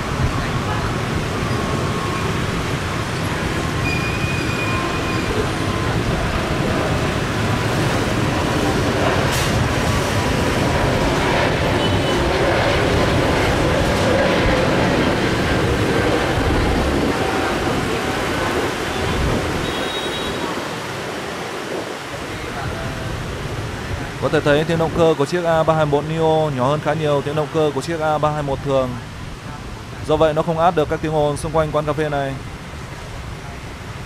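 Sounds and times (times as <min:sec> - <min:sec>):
jet engines rumbling: 0:00.0 - 0:34.0
street noise: 0:00.0 - 0:34.0.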